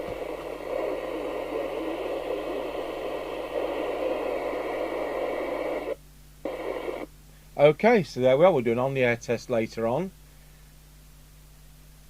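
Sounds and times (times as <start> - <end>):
radio static hiss: 0.0 - 11.4.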